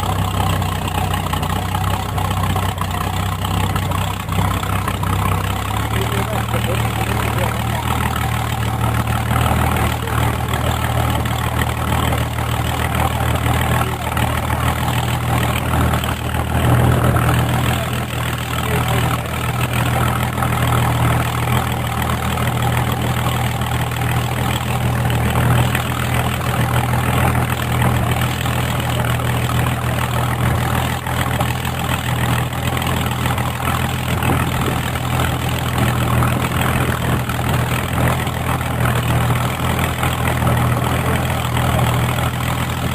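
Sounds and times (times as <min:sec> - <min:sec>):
aircraft engine idling: 0:00.0 - 0:42.9.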